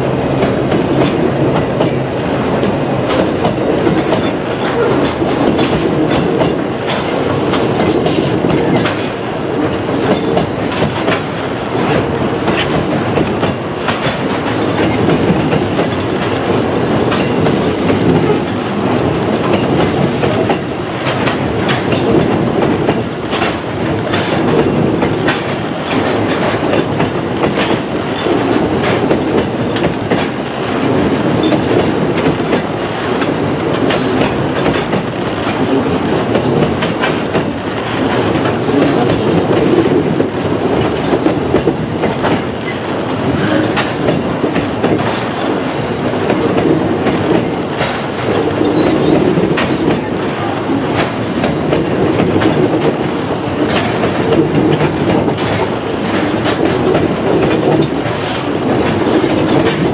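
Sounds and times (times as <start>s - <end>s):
clickety-clack over rail joints: 0.0s - 59.9s
train wheels rumbling: 0.0s - 59.9s.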